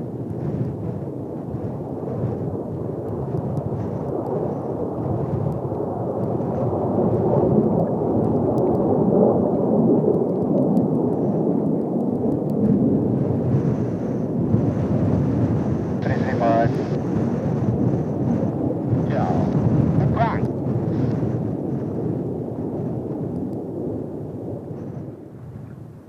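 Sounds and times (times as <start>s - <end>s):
distant jet roar: 0.0s - 25.3s
wind buffeting microphone: 0.0s - 26.0s.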